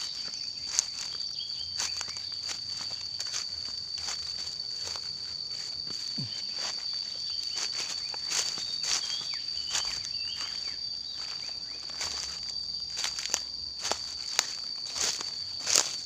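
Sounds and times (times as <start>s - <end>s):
footsteps on dry leaves and stones: 0.0s - 16.0s
high-pitched insect drone: 0.0s - 16.0s.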